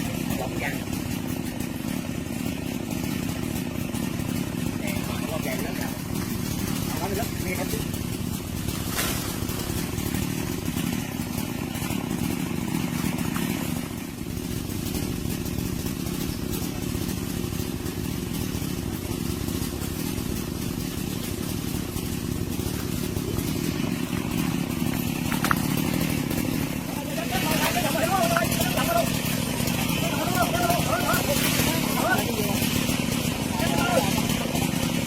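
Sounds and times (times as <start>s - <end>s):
chainsaw engine idling: 0.0s - 35.0s.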